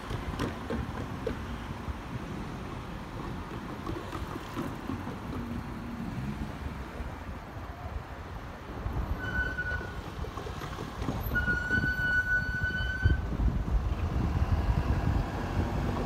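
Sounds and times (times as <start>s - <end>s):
wind noise: 0.0s - 16.0s.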